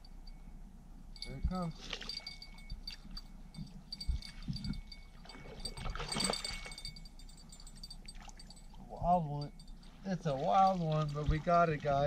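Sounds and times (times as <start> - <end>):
faint steady high tones: 0.0 - 11.4.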